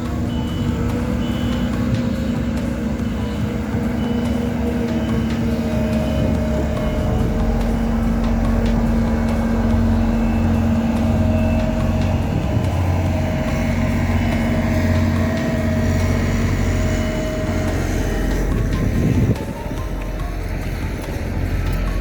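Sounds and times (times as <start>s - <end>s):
paving machinery engine rumble: 0.0s - 22.0s.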